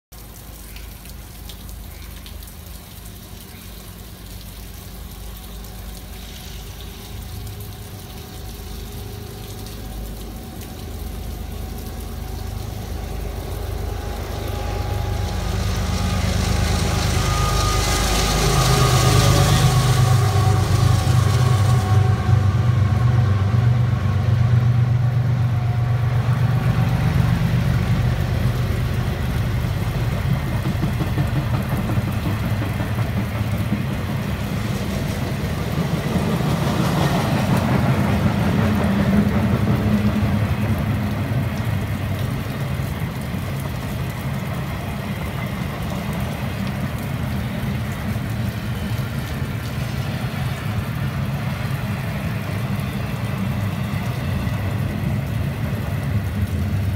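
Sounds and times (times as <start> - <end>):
diesel locomotive hum: 0.2 - 56.9
freight train wheels rumbling: 5.0 - 56.9.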